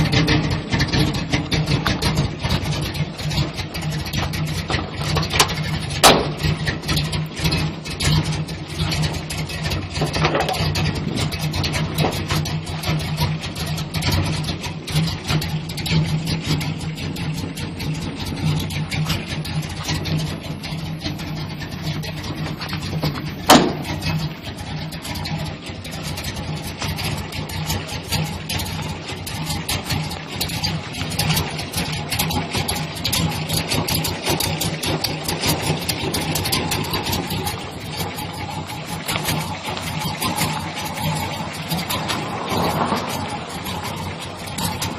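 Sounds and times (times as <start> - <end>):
pickup engine idling roughly: 0.0 - 44.9
sharp engine ticks: 0.0 - 44.9.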